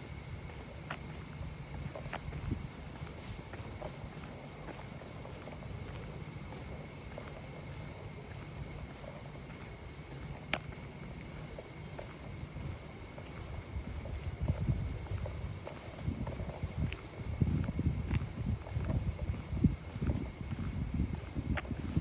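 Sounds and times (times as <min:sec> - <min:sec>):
footsteps on asphalt: 0:00.0 - 0:22.0
insect chorus: 0:00.0 - 0:22.0
wind rumble on microphone: 0:00.2 - 0:22.0.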